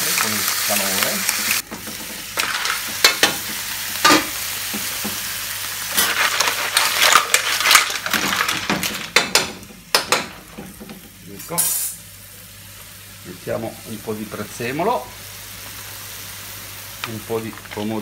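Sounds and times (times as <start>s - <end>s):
shellfish sizzling in a frying pan: 0.0s - 18.0s.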